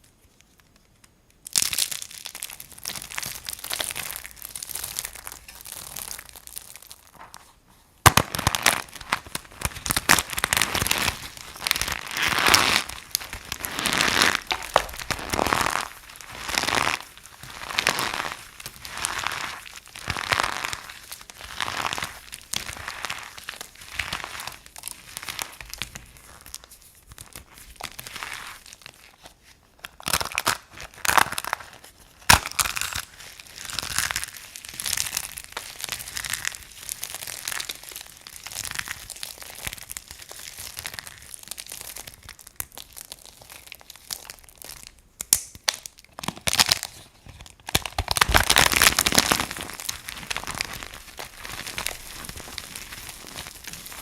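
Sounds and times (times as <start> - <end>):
bar soap crunched by hand: 8.0 - 29.0, 29.8 - 54.0.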